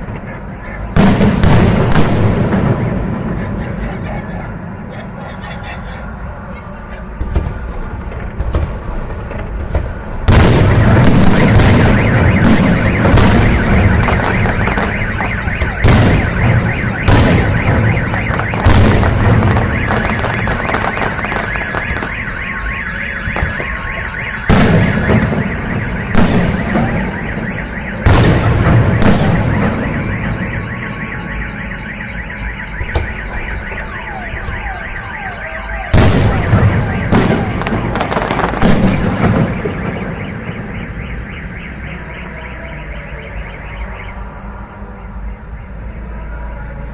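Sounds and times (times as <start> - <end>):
fireworks bangs and crackle: 0.0 - 42.8
alarm sounding: 0.0 - 46.9.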